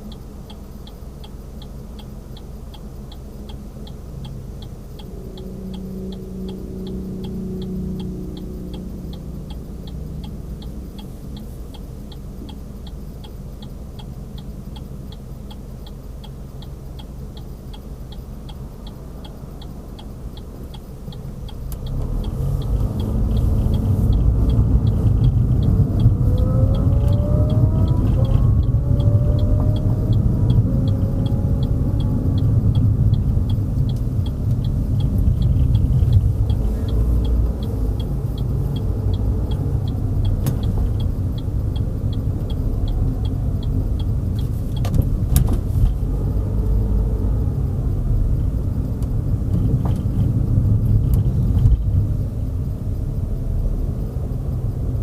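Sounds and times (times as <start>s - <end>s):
car engine and road rumble: 0.0s - 55.0s
turn signal clicking: 0.0s - 55.0s.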